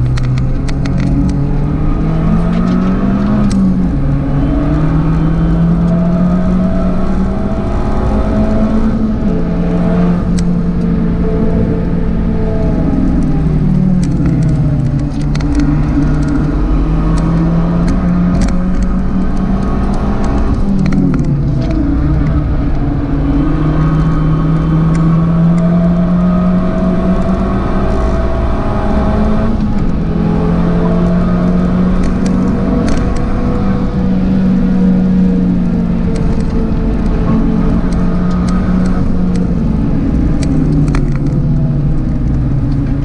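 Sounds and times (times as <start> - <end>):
car engine revving hard: 0.0 - 43.0.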